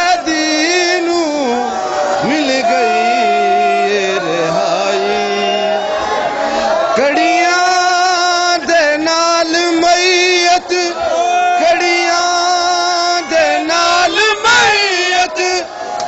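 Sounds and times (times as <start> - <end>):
man chanting a lament: 0.0 - 5.9, 6.8 - 15.8.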